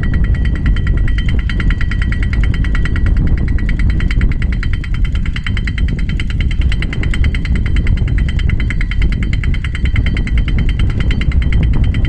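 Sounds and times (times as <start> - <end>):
rig engine running: 0.0 - 12.0.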